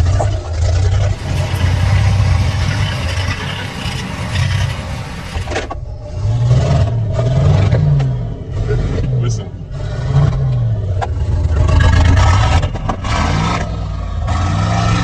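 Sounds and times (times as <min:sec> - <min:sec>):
engine revving: 0:00.0 - 0:15.0
engine running under load: 0:00.0 - 0:15.0
heavy rushing noise: 0:01.0 - 0:13.7.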